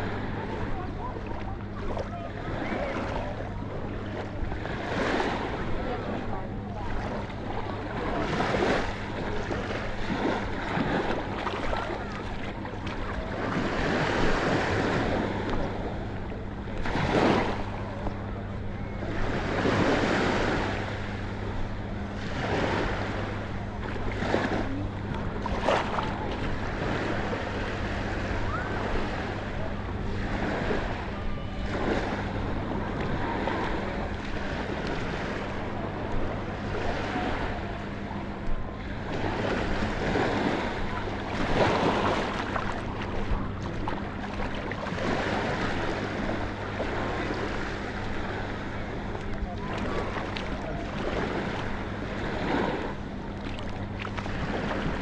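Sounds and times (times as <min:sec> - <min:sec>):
steady low hum: 0:00.0 - 0:55.0
waves washing onto shore: 0:00.0 - 0:55.0.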